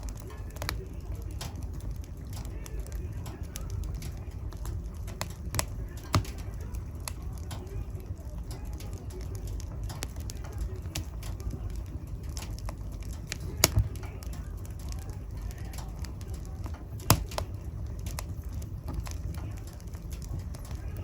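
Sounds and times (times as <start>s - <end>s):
fire crackling in fireplace: 0.0s - 21.0s.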